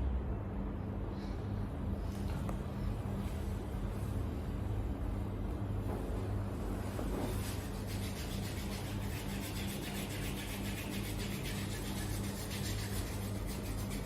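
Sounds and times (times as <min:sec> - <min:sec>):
constant low hum: 0:00.0 - 0:14.0.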